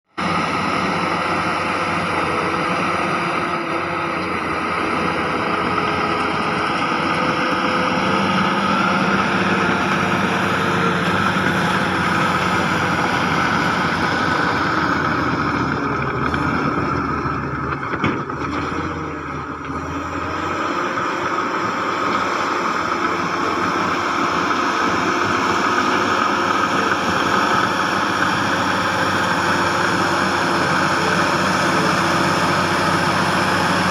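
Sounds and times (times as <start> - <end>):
diesel engines running: 0.1 - 33.9.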